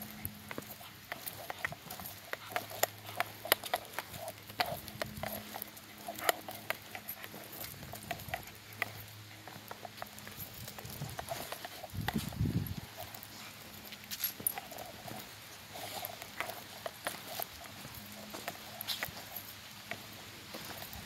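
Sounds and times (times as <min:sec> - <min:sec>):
dog claws and tags clicking: 0:00.0 - 0:21.0
footsteps on concrete: 0:00.0 - 0:21.0.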